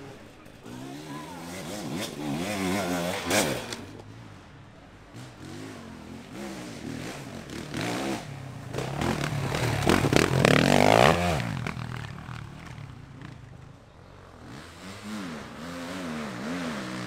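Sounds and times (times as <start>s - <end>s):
motorcycle engine revving: 0.0s - 4.2s, 5.0s - 17.0s.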